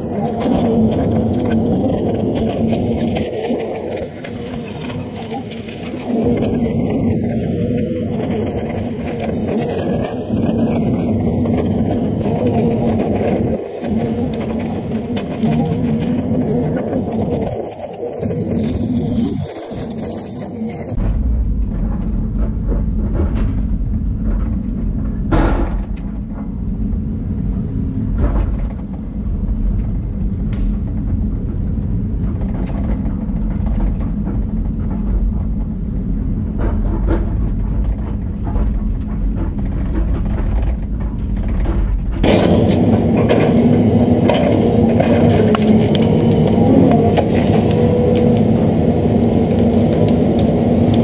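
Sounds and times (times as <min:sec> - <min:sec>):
excavator engine drone: 0:00.0 - 0:51.0.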